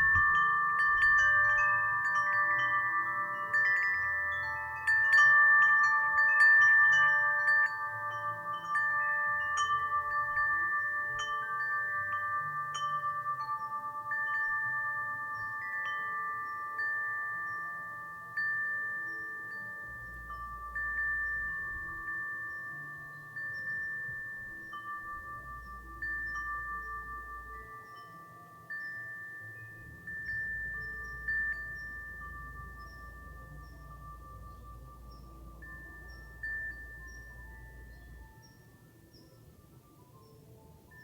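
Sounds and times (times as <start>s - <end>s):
wind chimes ringing: 0.0s - 41.0s.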